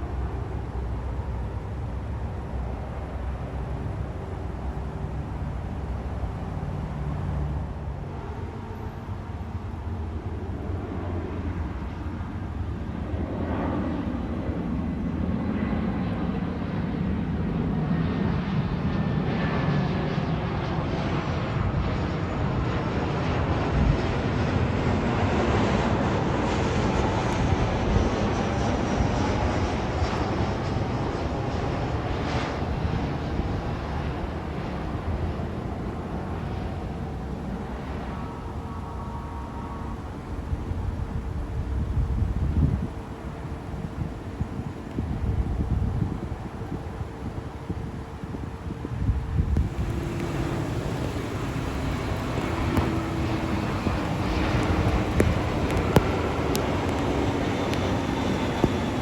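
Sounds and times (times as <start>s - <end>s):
high engine whine: 0.0s - 59.0s
jet airliner passing overhead: 0.0s - 59.0s.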